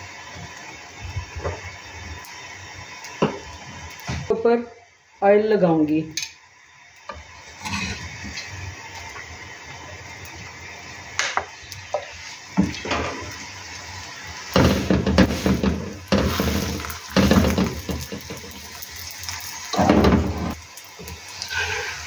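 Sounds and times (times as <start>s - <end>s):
flatbread sizzling on a hot pan: 0.0s - 5.8s, 6.4s - 22.0s.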